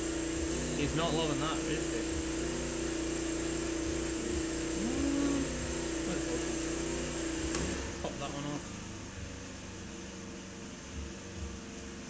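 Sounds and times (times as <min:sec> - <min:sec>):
generator engine running under load: 0:00.0 - 0:12.0.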